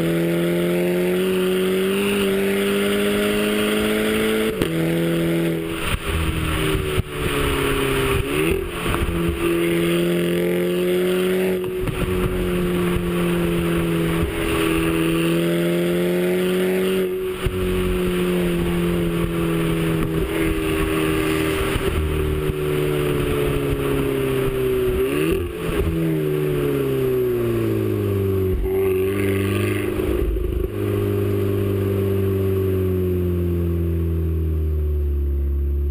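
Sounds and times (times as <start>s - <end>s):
car engine running: 1.2s - 35.9s.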